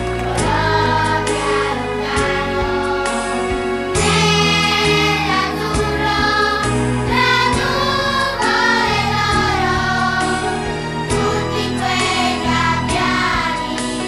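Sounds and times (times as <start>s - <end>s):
children's choir singing: 0.0s - 14.0s
instrumental accompaniment: 0.0s - 14.0s.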